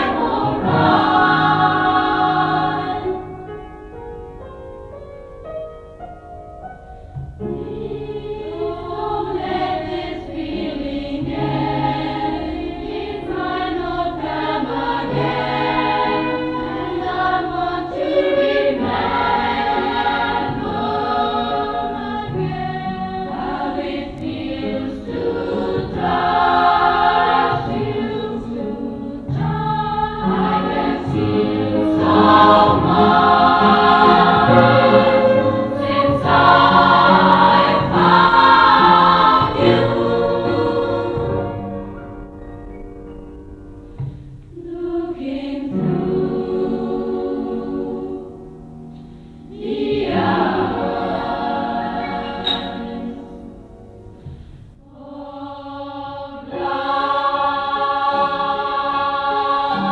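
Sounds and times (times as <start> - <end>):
choir singing: 0.0 - 4.1, 7.4 - 42.6, 44.5 - 48.7, 49.4 - 59.9.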